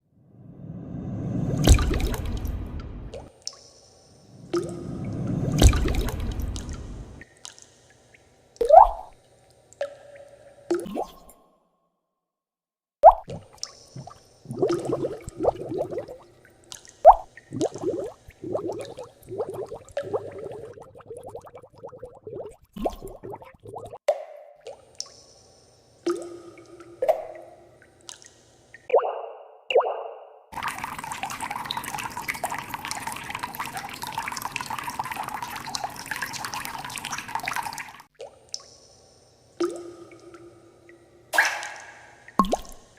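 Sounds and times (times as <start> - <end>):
bubbly bloops and drips: 1.6 - 3.7, 4.3 - 7.6, 8.2 - 9.2, 9.8 - 11.4, 13.0 - 25.4, 26.1 - 39.0, 39.6 - 42.9
water plop: 1.6 - 9.2, 9.8 - 11.4, 13.0 - 25.5, 26.1 - 39.0, 39.6 - 42.9.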